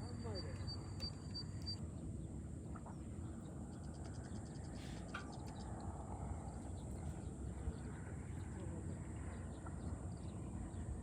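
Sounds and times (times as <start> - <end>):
bird-like chirp: 0.0 - 11.0.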